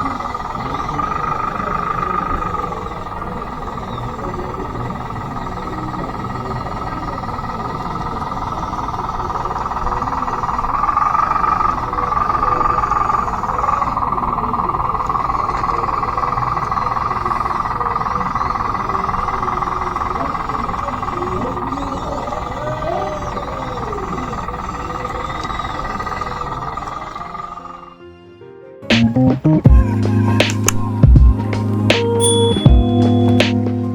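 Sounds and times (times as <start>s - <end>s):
electric drive whine: 0.0s - 28.0s, 28.9s - 33.9s.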